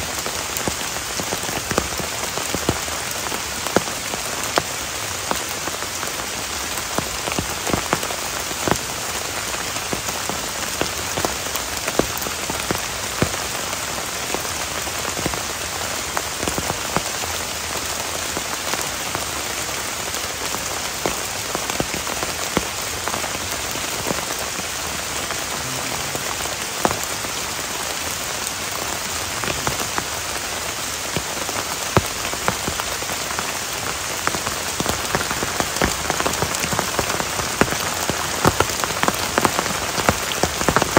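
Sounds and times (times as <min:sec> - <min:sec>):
heavy rain: 0:00.0 - 0:40.9
raindrops striking close by: 0:00.0 - 0:40.9.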